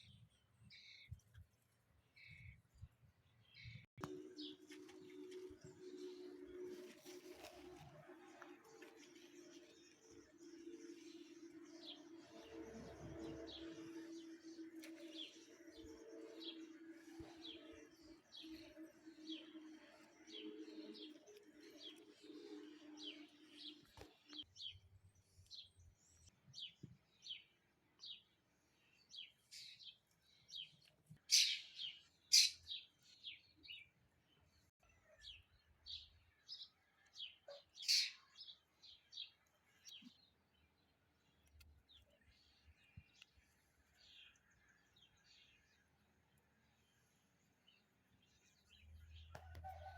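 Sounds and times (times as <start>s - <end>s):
bird chirping: 2.1s - 49.9s.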